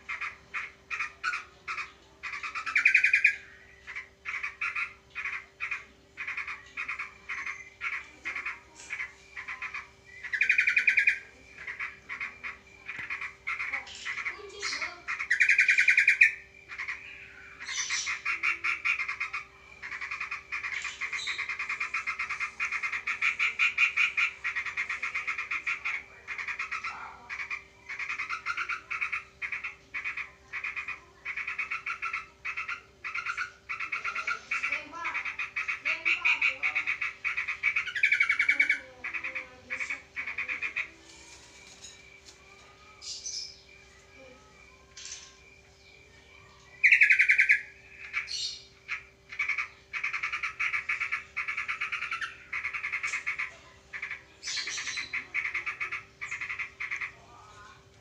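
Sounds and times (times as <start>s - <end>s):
birds chattering calls: 0.0s - 58.0s.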